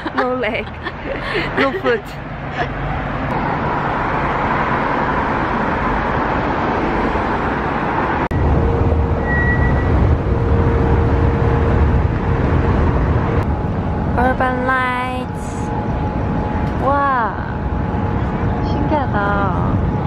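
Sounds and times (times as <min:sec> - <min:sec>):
cars passing on city street: 0:00.0 - 0:20.0
deep rumble: 0:02.1 - 0:20.0.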